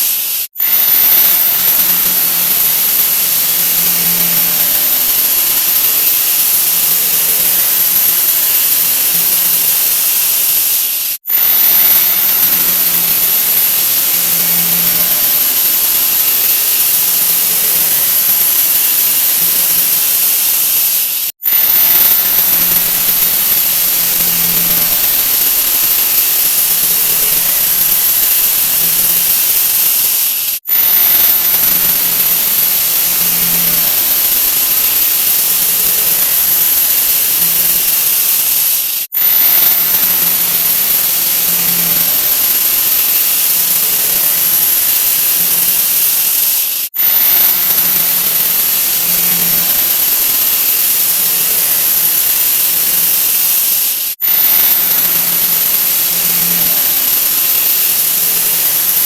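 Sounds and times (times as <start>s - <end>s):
loud continuous hiss: 0.0s - 59.0s.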